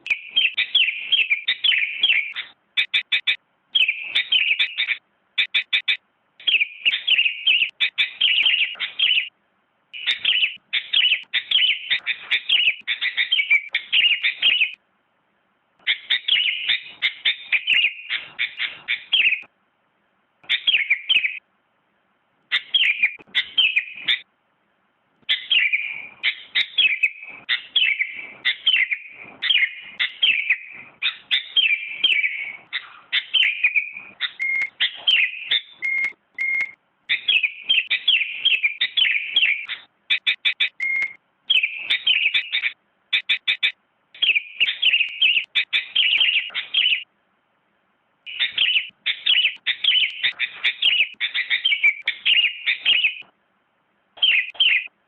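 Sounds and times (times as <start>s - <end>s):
bird chirping: 0.0s - 14.8s, 15.8s - 19.6s, 20.4s - 21.5s, 22.5s - 24.3s, 25.2s - 47.1s, 48.3s - 53.3s, 54.2s - 55.0s.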